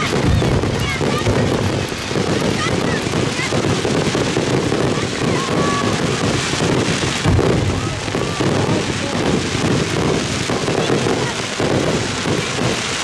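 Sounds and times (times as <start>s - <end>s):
crowd talking: 0.0s - 13.0s
fireworks booming: 0.0s - 13.0s.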